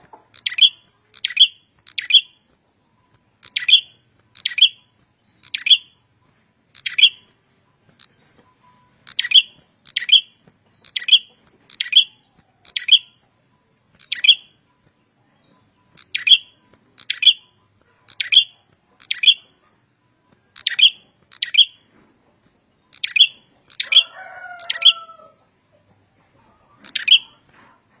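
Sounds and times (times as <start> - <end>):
songbird chirping: 0.0 - 28.0.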